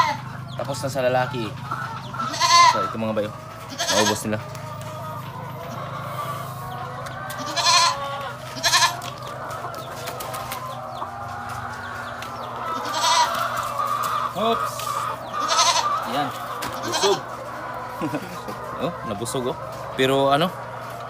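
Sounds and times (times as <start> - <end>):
young goats bleating: 0.0 - 9.8, 11.9 - 19.3
chicken squawks: 0.0 - 21.0
chickens clucking: 0.0 - 21.0.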